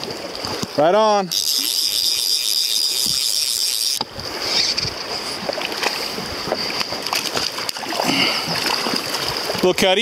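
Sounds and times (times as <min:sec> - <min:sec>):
small water splashes: 0:00.0 - 0:10.0.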